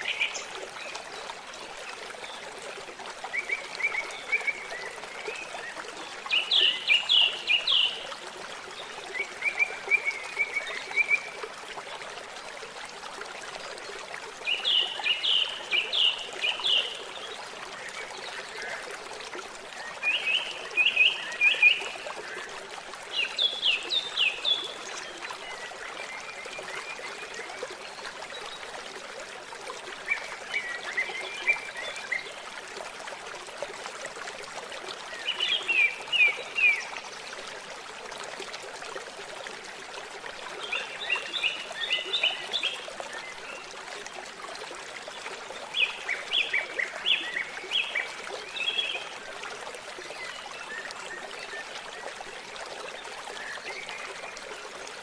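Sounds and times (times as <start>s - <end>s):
trickling running water: 0.0s - 55.0s.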